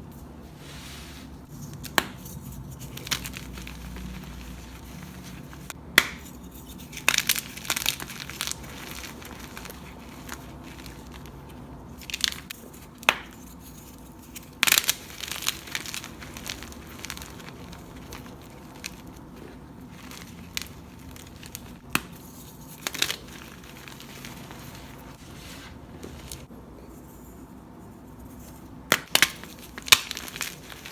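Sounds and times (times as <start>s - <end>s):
chalk crumbling: 0.1s - 27.4s, 28.1s - 30.9s
chalk crunching: 0.7s - 26.5s.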